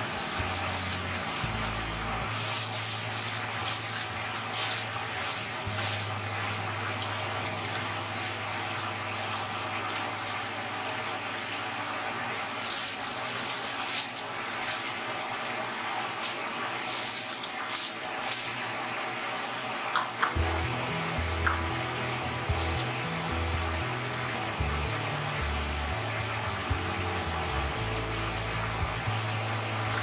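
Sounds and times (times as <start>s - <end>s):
steady low hum: 0.0s - 16.1s, 20.4s - 30.0s
aluminium foil crinkling: 0.0s - 18.7s, 20.4s - 25.9s, 29.2s - 30.0s.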